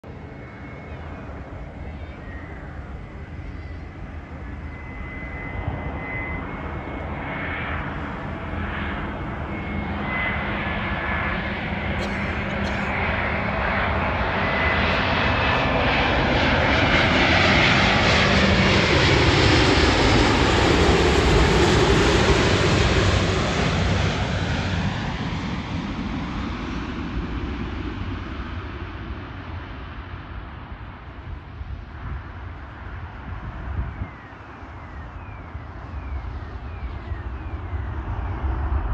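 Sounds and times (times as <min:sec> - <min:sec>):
jet airliner passing low: 0:00.0 - 0:38.9.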